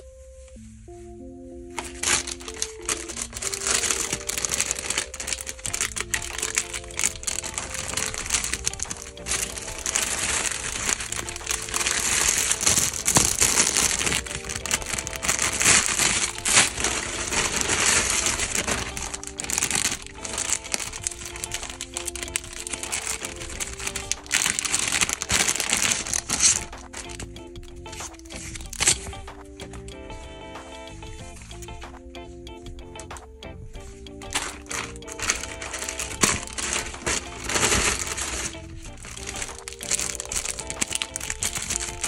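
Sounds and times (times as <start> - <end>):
soft background music: 0.0 - 42.0
plastic packaging crinkling: 1.8 - 29.9, 34.2 - 42.0.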